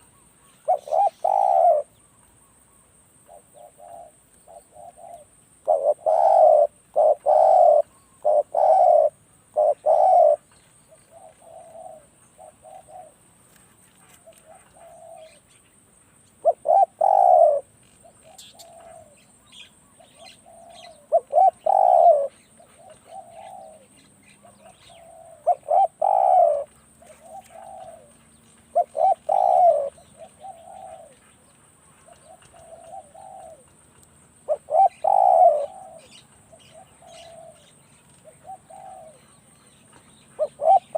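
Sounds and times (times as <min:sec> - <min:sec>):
dove cooing: 0:00.0 - 0:02.0, 0:03.3 - 0:13.2, 0:14.0 - 0:15.4, 0:16.4 - 0:33.7, 0:34.4 - 0:40.9.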